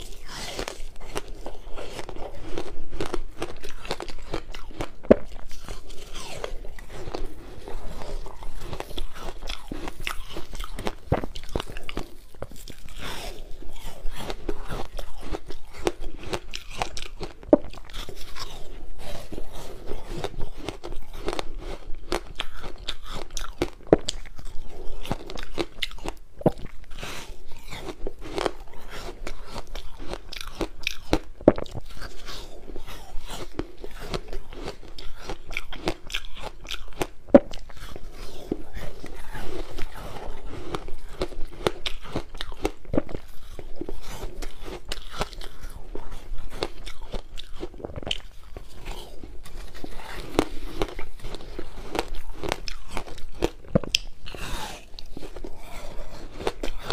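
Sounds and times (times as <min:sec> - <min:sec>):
crunching frozen ice: 0:00.0 - 0:56.9.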